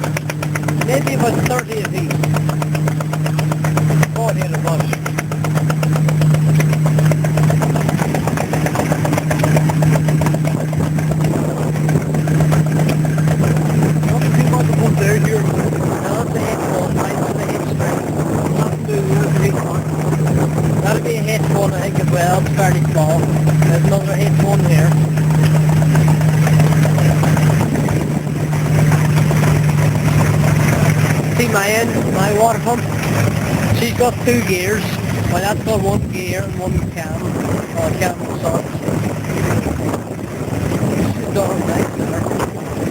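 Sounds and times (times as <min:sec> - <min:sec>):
low hum: 0:00.0 - 0:42.9
stationary engines knocking: 0:00.0 - 0:42.9.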